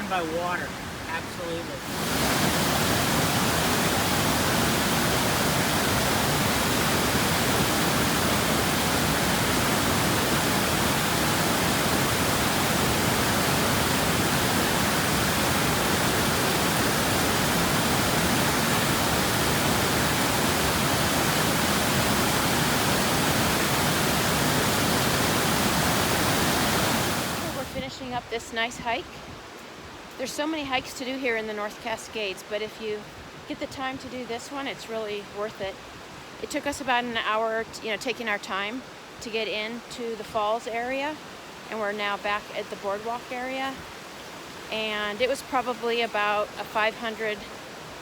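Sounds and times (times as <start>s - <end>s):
waterfall rushing: 0.0s - 29.1s, 33.3s - 48.0s.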